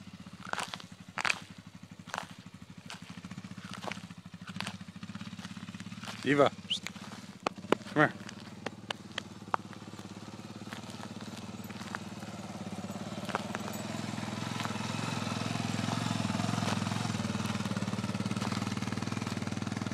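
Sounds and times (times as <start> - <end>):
quad bike engine passing: 0.0 - 19.9.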